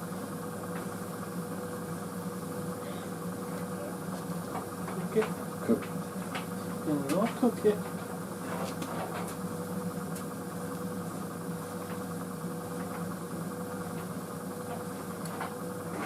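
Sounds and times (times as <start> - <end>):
tumble dryer humming: 0.0 - 16.0.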